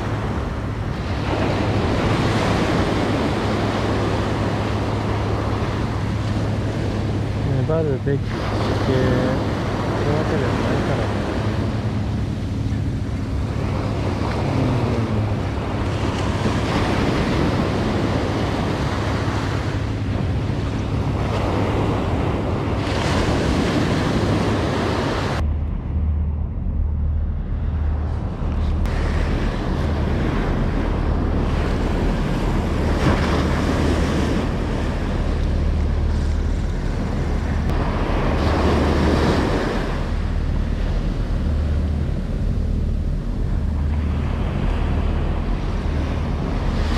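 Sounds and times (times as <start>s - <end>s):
surf washing at shoreline: 0.0s - 25.4s, 27.6s - 46.9s
wind rumbling on microphone: 0.0s - 46.9s.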